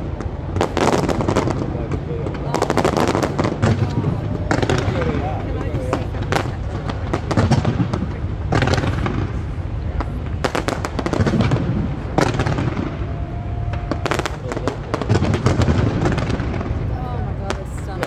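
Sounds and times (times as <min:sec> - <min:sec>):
fireworks bangs and crackles: 0:00.0 - 0:18.0
low rumble: 0:00.0 - 0:18.0.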